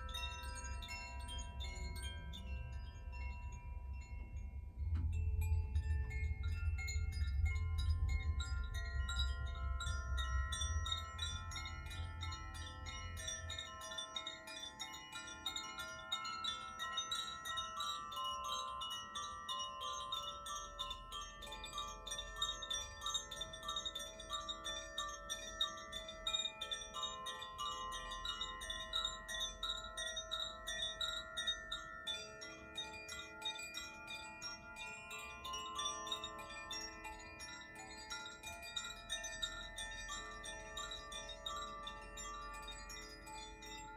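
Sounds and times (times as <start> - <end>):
wind chimes ringing: 0.0 - 43.9.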